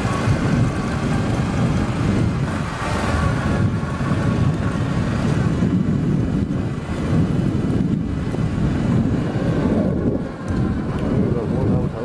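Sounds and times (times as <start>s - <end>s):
atv engine running: 0.0s - 12.0s
wind buffeting microphone: 0.0s - 12.0s.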